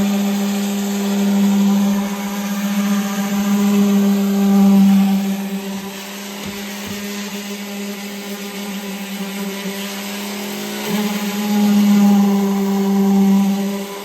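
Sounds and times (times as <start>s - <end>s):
orbital sander on wood: 0.0s - 14.0s.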